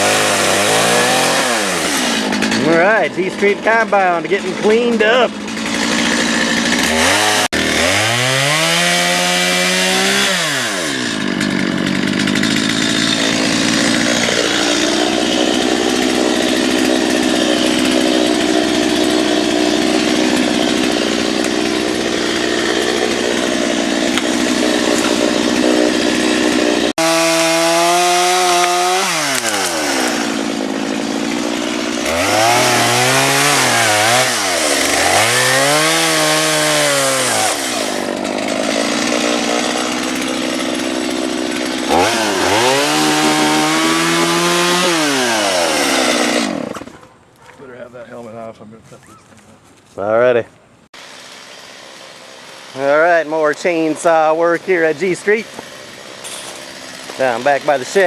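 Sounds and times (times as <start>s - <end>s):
chainsaw cutting wood: 0.0s - 47.5s, 50.9s - 58.0s.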